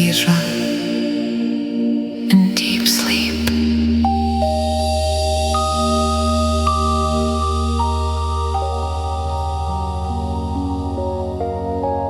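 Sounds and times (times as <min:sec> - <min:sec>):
ambient synth music: 0:00.0 - 0:12.0
deep drone: 0:00.0 - 0:12.0.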